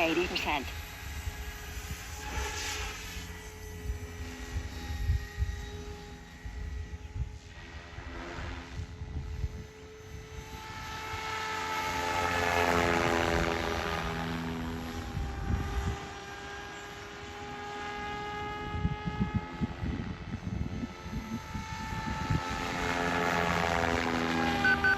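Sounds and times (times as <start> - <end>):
rc helicopter rotor whine: 0.0 - 24.9.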